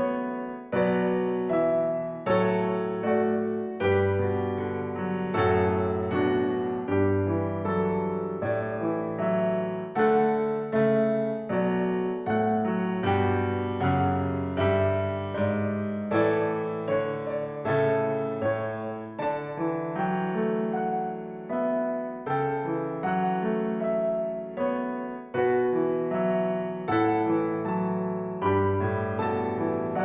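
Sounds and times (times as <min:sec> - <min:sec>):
calm piano music: 0:00.0 - 0:30.0.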